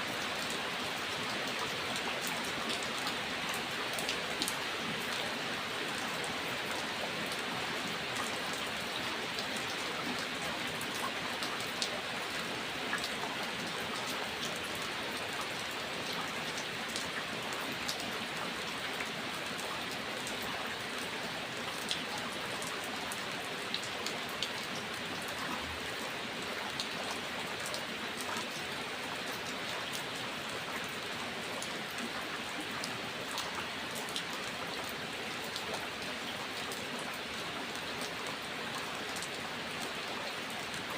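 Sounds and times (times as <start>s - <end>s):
steady rain falling: 0.0s - 40.9s
raindrops ticking on a surface: 0.1s - 40.9s.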